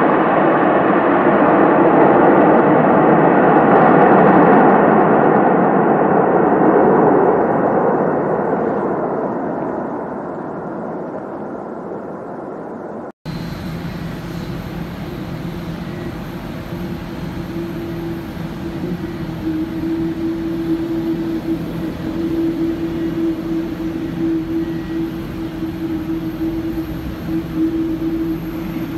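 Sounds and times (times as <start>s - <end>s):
jet engine deep rumble: 0.0s - 28.9s
jet engine drone with hum: 0.0s - 28.9s
faint high whine: 5.7s - 28.9s.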